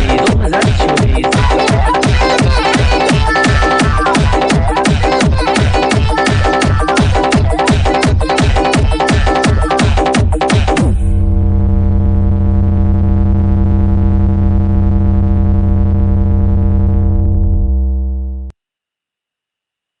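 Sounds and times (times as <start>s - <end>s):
deep synthesizer bass note: 0.0s - 18.5s.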